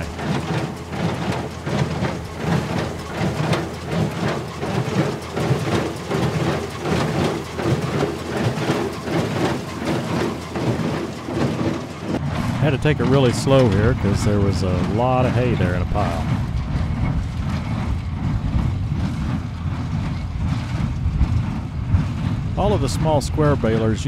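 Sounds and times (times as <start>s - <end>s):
baler mechanical clatter: 0.0s - 24.0s
tractor engine running: 0.0s - 24.0s.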